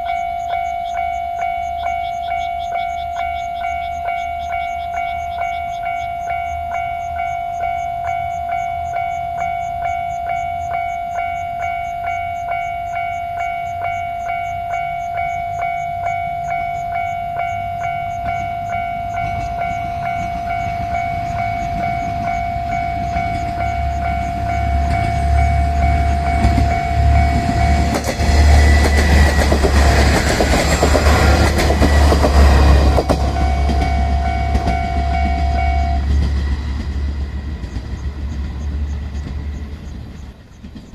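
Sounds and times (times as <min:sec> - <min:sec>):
level-crossing warning bell ringing: 0:00.0 - 0:40.4
diesel train engine rumble: 0:00.0 - 0:40.9
train wheels on rails: 0:00.0 - 0:40.9.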